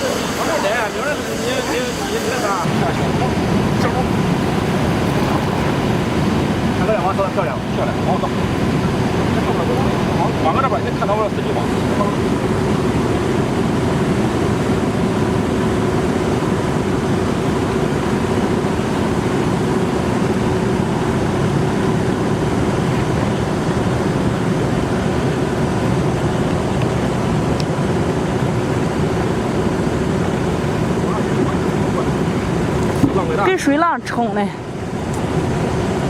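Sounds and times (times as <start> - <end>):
boat motor running: 0.0 - 36.0
churning water rushing: 0.0 - 36.0.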